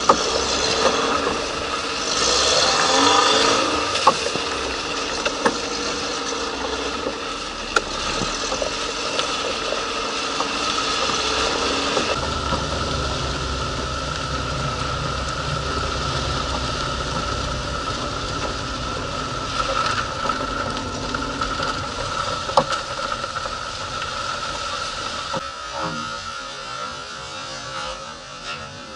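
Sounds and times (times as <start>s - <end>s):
suspension knocking: 0.0s - 25.4s
car road and engine noise: 0.0s - 28.9s.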